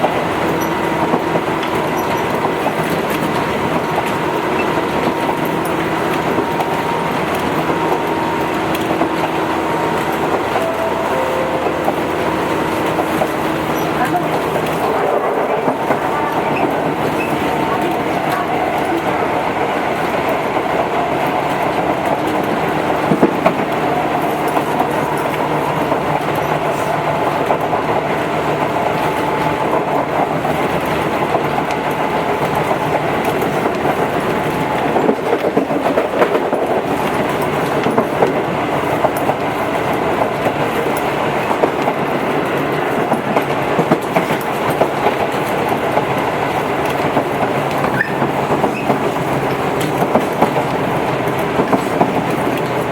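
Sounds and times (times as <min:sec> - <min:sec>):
train rumbling from inside: 0:00.0 - 0:52.9
wheels clicking over rails: 0:00.0 - 0:52.9.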